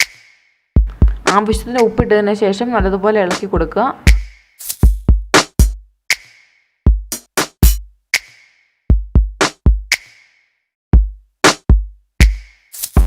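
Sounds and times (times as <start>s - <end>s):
drum machine beat: 0.0s - 10.3s, 11.0s - 13.0s.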